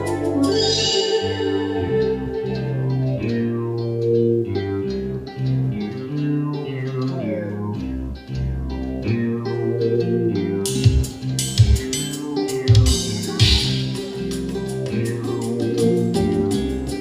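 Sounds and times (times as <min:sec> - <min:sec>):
jazz bass line: 0:00.0 - 0:17.0
plucked guitar melody: 0:00.0 - 0:17.0.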